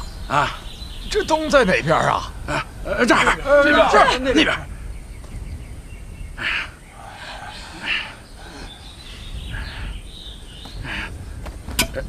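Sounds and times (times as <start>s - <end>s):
faint bird chirps: 0.0s - 11.4s
harsh bird calls: 0.0s - 12.0s.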